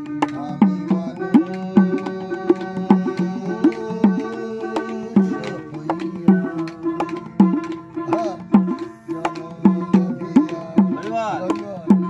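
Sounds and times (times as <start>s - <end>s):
hand drum beating: 0.0s - 12.0s
plucked string melody: 0.0s - 12.0s.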